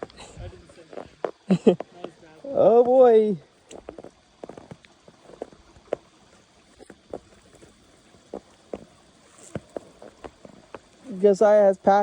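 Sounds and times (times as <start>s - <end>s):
footsteps crunching in snow: 0.0s - 11.2s.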